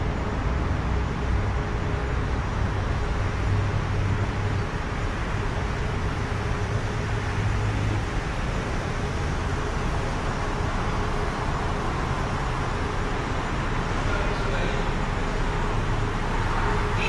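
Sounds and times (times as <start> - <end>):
station platform ambient noise: 0.0 - 17.0.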